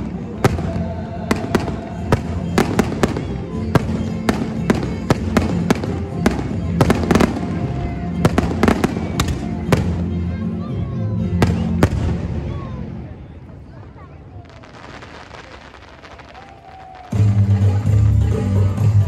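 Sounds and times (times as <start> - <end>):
fireworks bursting: 0.0 - 10.2, 11.3 - 18.4
music playing: 0.0 - 13.7, 16.8 - 19.0.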